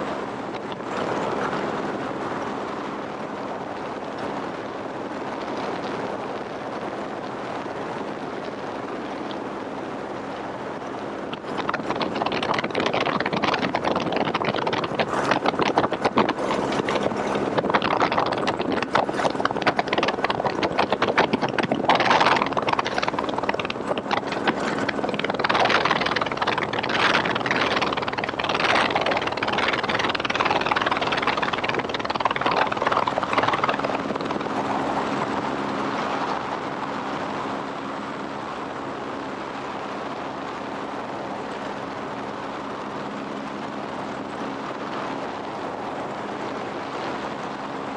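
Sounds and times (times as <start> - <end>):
faint hum: 0.0 - 47.9
wind buffeting microphone: 0.0 - 47.9
helicopter rotor and engine: 6.0 - 47.9.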